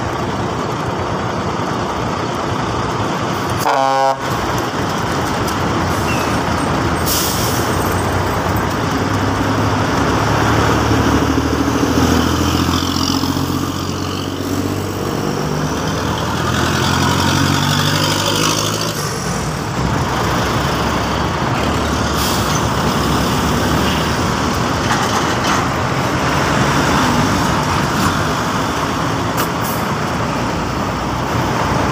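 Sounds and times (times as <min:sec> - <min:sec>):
highway traffic passing: 0:00.0 - 0:31.9
truck diesel engine droning: 0:00.0 - 0:31.9.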